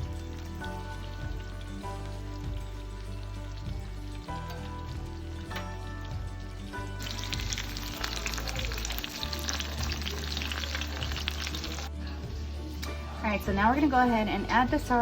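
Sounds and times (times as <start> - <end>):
cutlets sizzling in a pan: 0.0 - 13.0
background music: 0.0 - 15.0.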